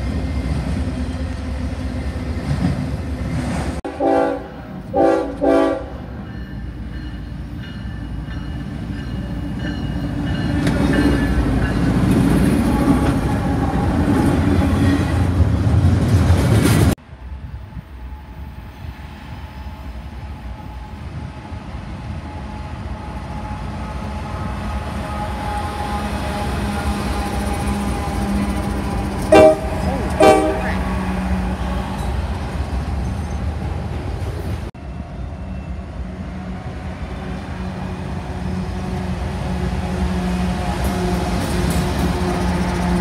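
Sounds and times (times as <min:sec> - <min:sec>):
freight train passing: 0:00.0 - 0:43.0.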